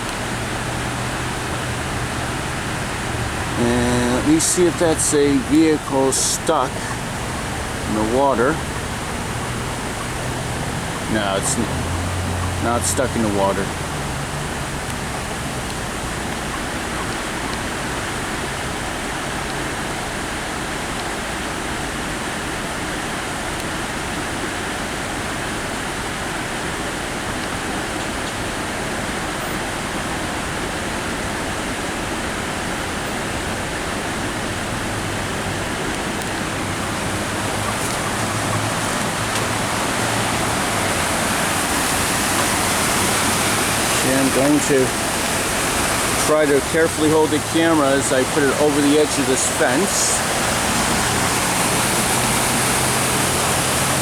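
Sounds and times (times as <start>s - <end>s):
faint low engine hum: 0.0s - 22.1s, 25.0s - 54.0s
water hissing and rushing: 0.0s - 54.0s.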